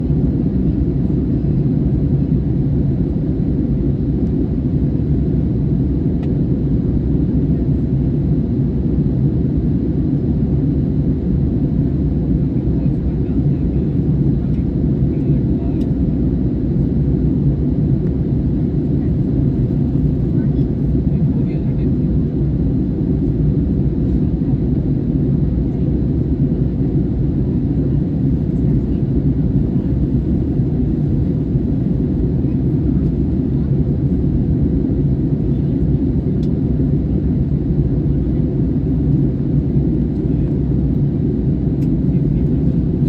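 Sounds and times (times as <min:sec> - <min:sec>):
airliner low rumble: 0:00.0 - 0:43.0.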